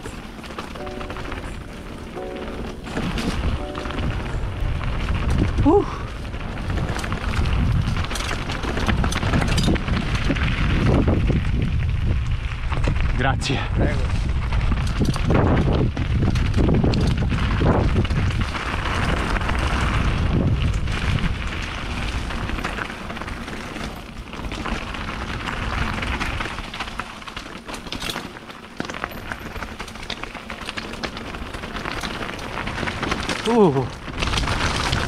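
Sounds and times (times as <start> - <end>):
wind rumbling on microphone: 0.0 - 27.5, 29.1 - 35.0
bike knocking and rattling: 0.0 - 35.0
bike tyres rolling on dirt: 0.0 - 35.0.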